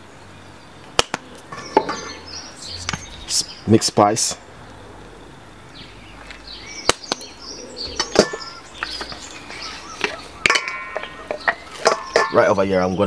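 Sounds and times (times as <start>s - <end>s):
faint bird chirps: 1.2s - 13.0s.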